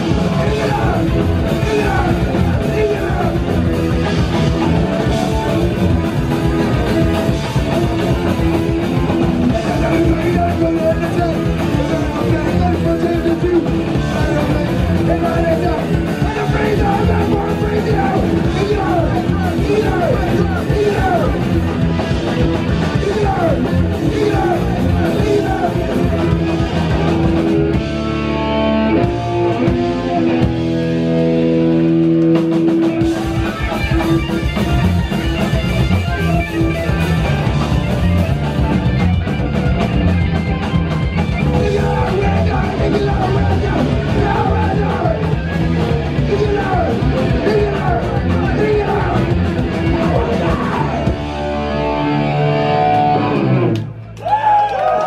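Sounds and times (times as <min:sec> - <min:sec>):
fast drums: 0:00.0 - 0:28.2, 0:29.0 - 0:51.5
bass guitar: 0:00.0 - 0:55.0
distorted electric guitars: 0:00.0 - 0:55.0.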